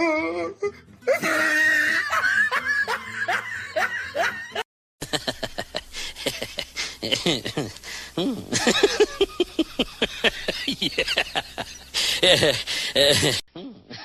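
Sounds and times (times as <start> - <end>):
person laughing in squealing bursts: 1.1 - 13.4.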